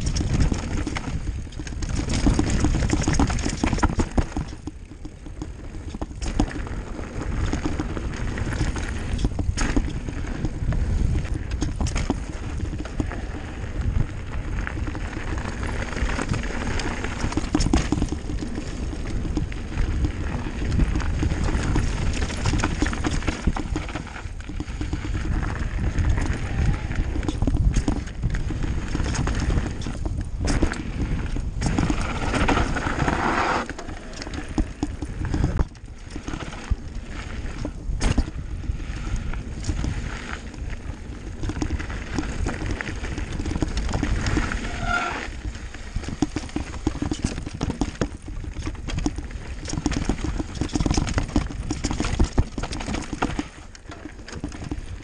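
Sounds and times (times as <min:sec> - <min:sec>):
bike rattling and knocking: 0:00.0 - 0:55.0
tyres crunching over dirt and stones: 0:00.0 - 0:55.0
wind rumbling on microphone: 0:00.0 - 0:55.0.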